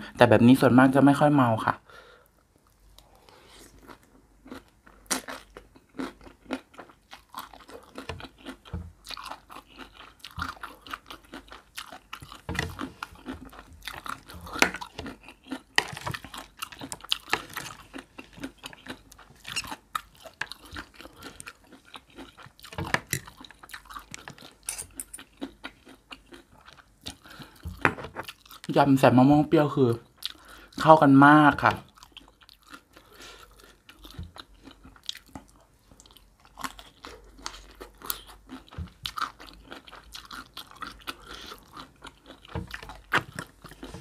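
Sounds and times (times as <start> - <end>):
chewing and crunching: 2.6 - 29.1, 30.0 - 44.0.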